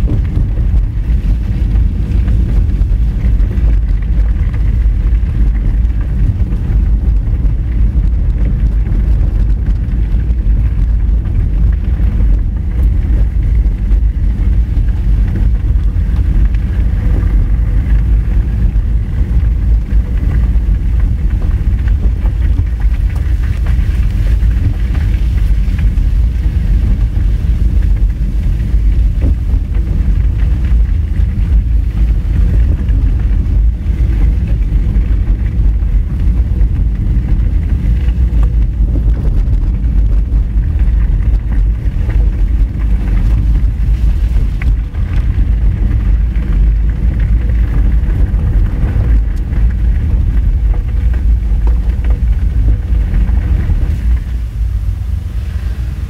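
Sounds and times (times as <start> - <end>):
car tyres rumbling on gravel: 0.0 - 56.0.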